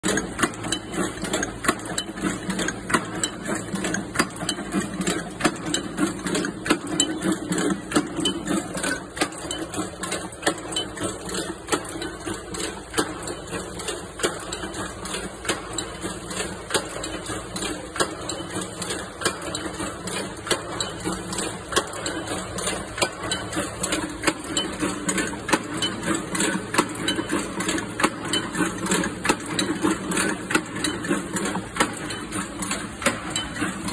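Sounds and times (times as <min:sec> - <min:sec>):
rhythmic metallic machine clatter: 0:00.0 - 0:33.9.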